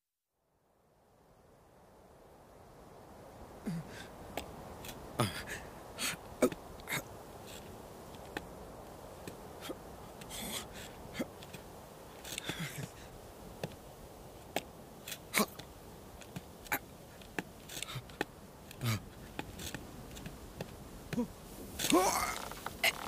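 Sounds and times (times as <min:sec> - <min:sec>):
faint steady background hiss: 0:00.1 - 0:23.0
short breathy rustles: 0:03.5 - 0:23.0.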